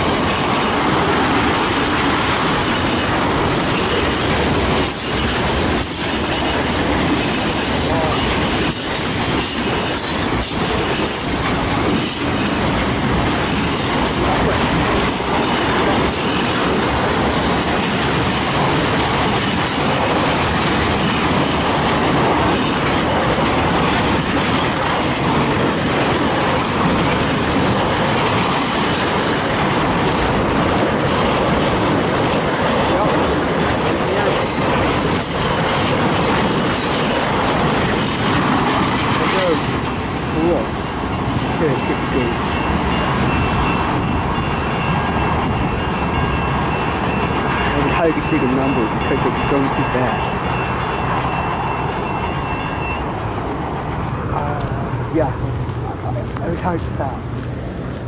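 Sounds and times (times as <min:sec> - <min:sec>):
train wheels rumbling on rails: 0:00.0 - 0:58.0
wheels clattering over rail joints: 0:00.0 - 0:58.0.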